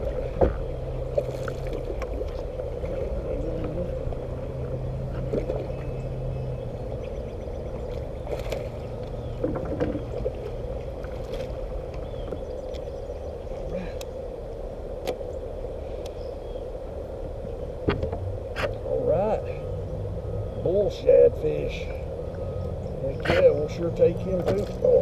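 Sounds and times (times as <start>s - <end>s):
water lapping along kayak hull: 0.0s - 25.0s.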